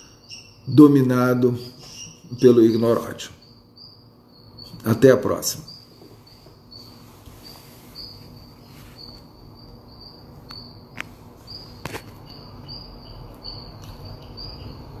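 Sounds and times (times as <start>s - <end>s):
high-pitched insect-like chirping: 0.0s - 15.0s.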